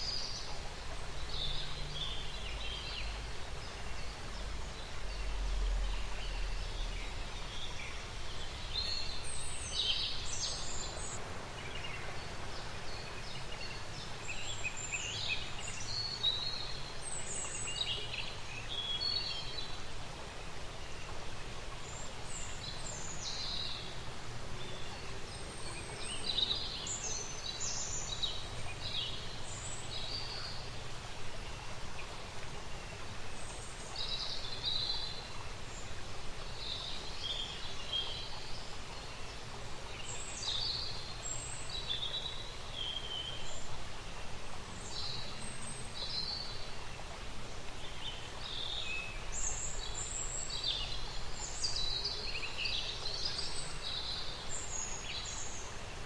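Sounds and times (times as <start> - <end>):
songbirds chirping: 0.0 - 56.0
steady background hiss: 0.0 - 56.0.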